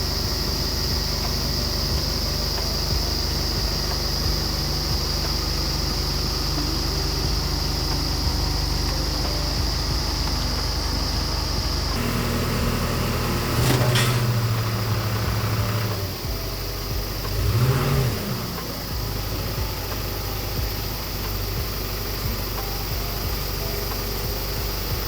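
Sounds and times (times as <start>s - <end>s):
truck engine running and revving: 0.0s - 25.0s.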